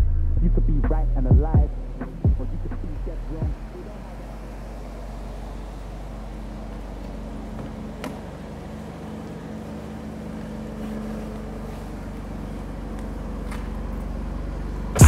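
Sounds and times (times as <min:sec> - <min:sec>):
faint constant hum: 0:00.0 - 0:15.0
vehicle engine and road rumble: 0:00.0 - 0:15.0.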